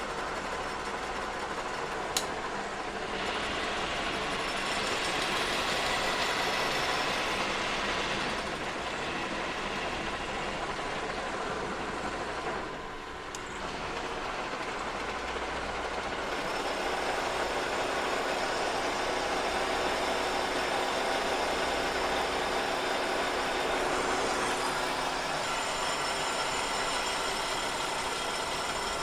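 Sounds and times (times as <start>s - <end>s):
milling machine cutting metal: 2.9s - 10.5s, 12.6s - 29.0s.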